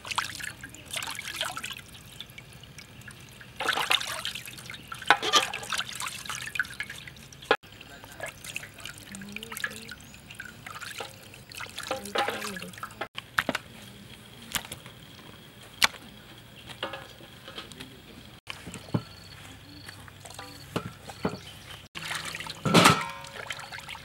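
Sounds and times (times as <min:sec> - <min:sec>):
water splashing in metal basin: 0:00.0 - 0:13.6, 0:15.8 - 0:19.5, 0:20.1 - 0:24.0.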